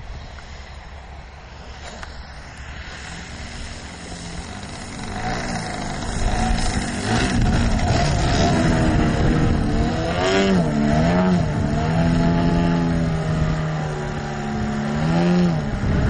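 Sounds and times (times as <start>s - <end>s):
model plane engine and propeller: 0.0s - 16.0s.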